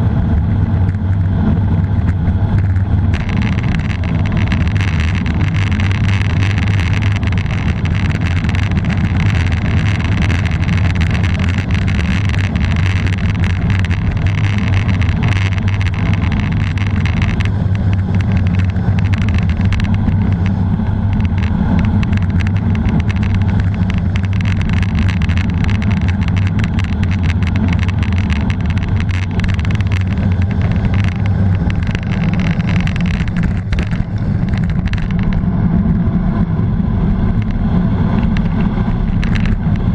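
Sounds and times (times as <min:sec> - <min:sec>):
tyre rumble on asphalt: 0:00.0 - 0:39.9
wind buffeting microphone: 0:00.0 - 0:39.9
small knocks: 0:02.6 - 0:35.4.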